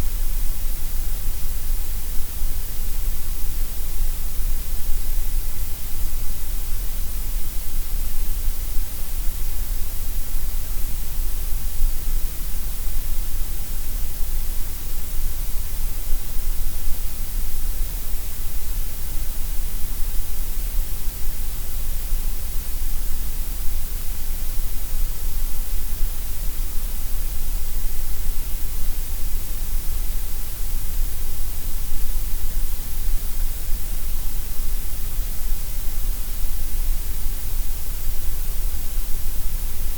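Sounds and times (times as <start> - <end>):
steady gray noise hiss: 0.0 - 39.9.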